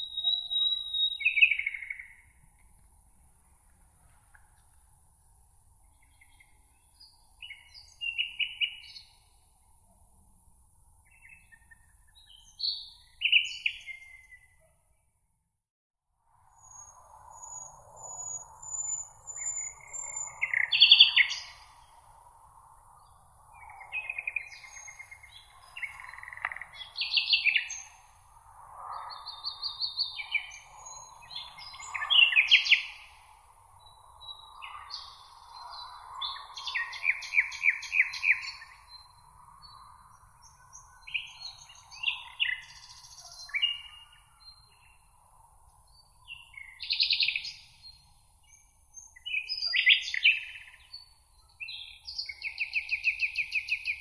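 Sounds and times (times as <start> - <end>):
songbirds singing: 0.0 - 2.8, 5.7 - 9.4, 11.0 - 15.0, 16.6 - 54.0.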